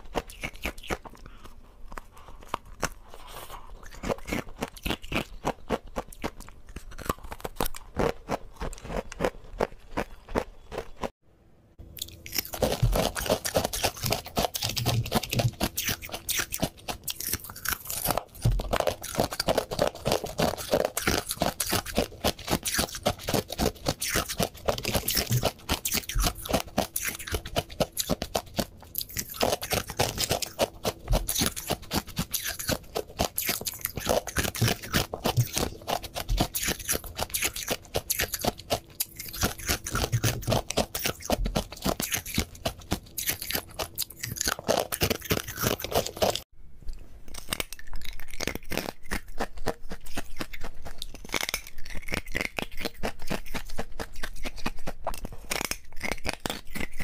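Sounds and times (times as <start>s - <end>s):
crunching and chewing ice: 0.0s - 11.2s, 11.8s - 46.5s, 47.2s - 57.0s.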